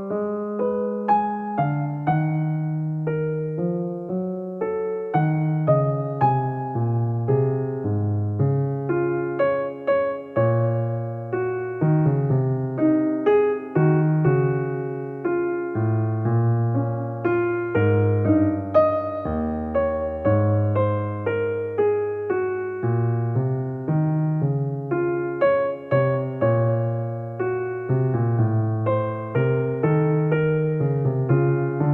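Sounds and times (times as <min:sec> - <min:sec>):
electric piano melody: 0:00.0 - 0:31.9.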